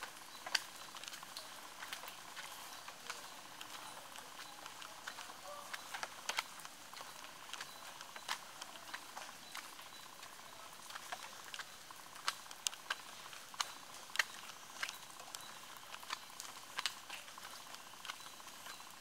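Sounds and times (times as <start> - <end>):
light rain hiss: 0.0 - 19.0
water drops pattering on leaves: 0.0 - 19.0.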